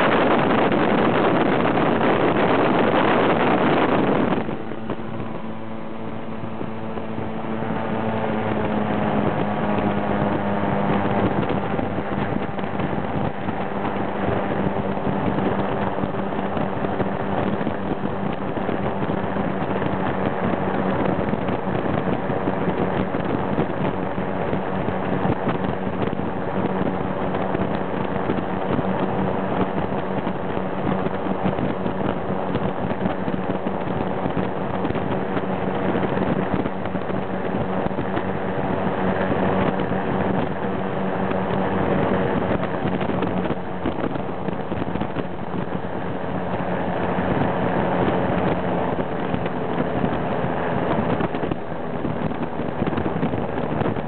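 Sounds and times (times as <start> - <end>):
aircraft propeller engine droning: 0.0 - 54.0
wind rushing over microphone: 0.0 - 54.0.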